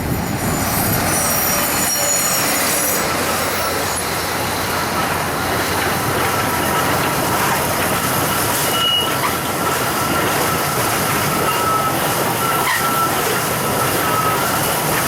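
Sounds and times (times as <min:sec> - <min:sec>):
wheel squeal: 0:00.0 - 0:07.6, 0:08.4 - 0:15.0
train wheels rushing on rail: 0:00.0 - 0:15.0.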